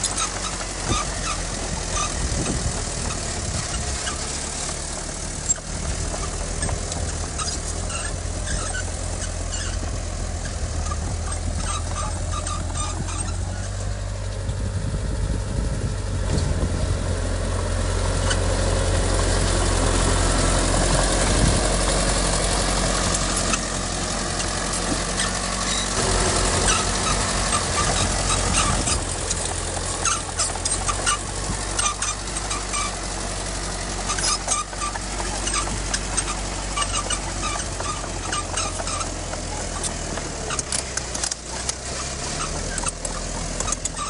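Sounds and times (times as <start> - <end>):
high squeaks and clanks: 0.0 - 14.6, 18.0 - 44.0
heavy machinery diesel engine: 0.0 - 44.0.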